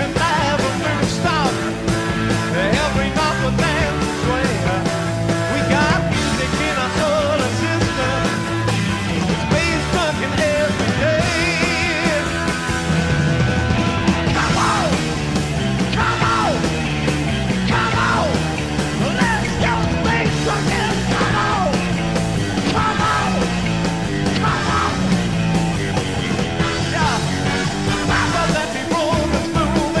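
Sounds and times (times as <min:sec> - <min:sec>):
bass line: 0:00.0 - 0:30.0
drums: 0:00.0 - 0:30.0
rock music: 0:00.0 - 0:30.0
sung and yelled vocals: 0:00.0 - 0:30.0.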